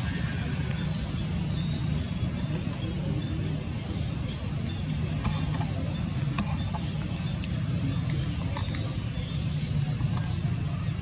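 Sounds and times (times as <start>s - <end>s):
high-pitched insect drone: 0.0s - 11.0s
low motor-like rumble: 0.0s - 11.0s.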